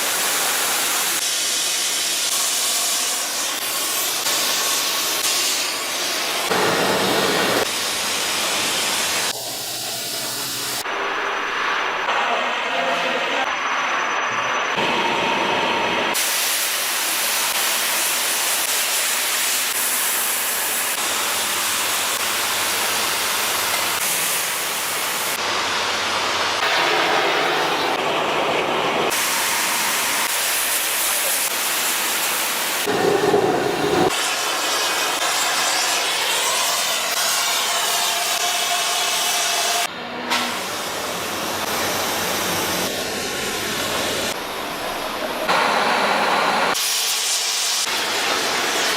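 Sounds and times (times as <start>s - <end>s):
loud factory hissing: 0.0s - 48.9s.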